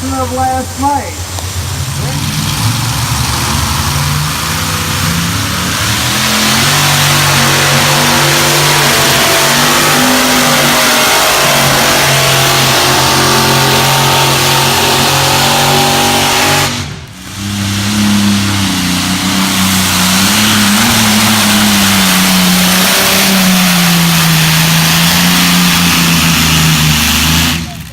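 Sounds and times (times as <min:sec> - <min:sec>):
engine running at high revs: 0:01.2 - 0:27.9.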